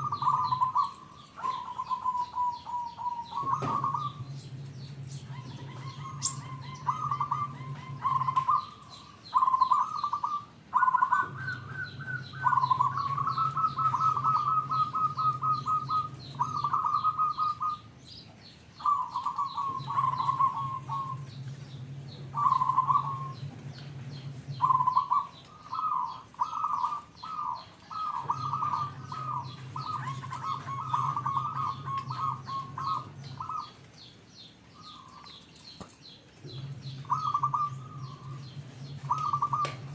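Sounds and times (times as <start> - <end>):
dove trilled cooing: 0.0 - 18.0, 18.8 - 34.1, 34.7 - 39.9.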